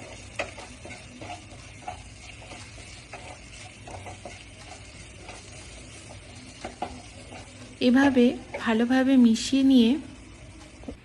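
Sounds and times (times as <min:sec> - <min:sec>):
faint sizzle: 0:00.0 - 0:11.0
spatula stirring thick masala: 0:00.0 - 0:11.0.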